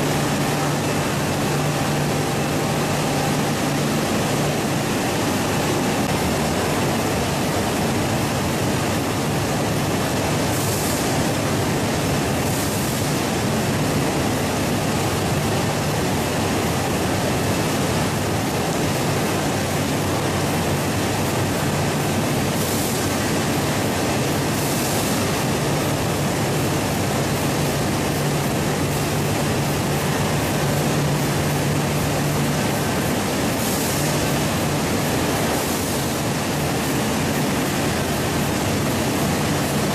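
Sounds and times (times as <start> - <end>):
low machinery hum: 0.0 - 39.9
machinery hiss: 0.0 - 39.9.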